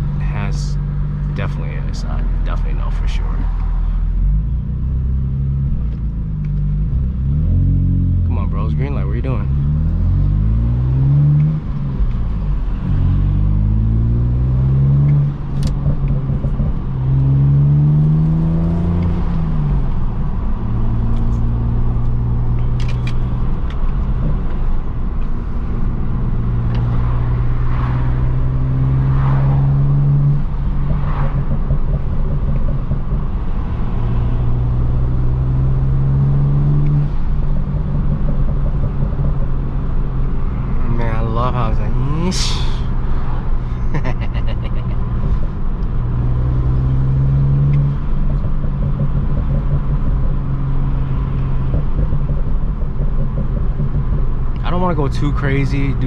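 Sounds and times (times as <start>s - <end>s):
car engine accelerating through gears: 3.2s - 40.9s, 41.7s - 56.0s.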